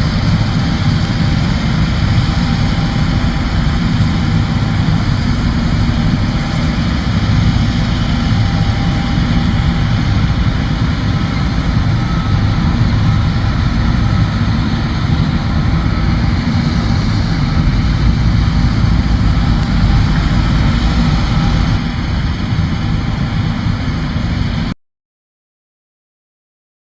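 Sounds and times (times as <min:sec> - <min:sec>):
combine harvester running: 0:00.0 - 0:24.7.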